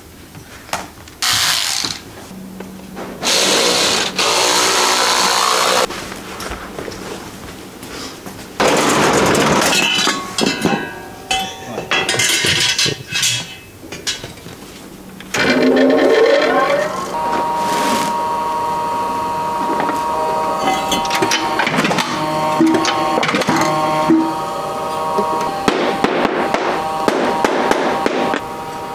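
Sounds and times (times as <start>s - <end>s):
steady humming tone: 1.2s - 28.9s.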